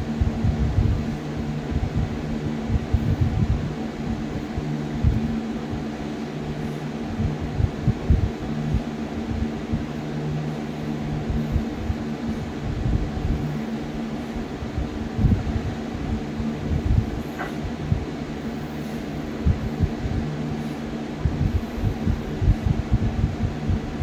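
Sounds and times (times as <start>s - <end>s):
mechanical fan hum: 0.0s - 24.0s.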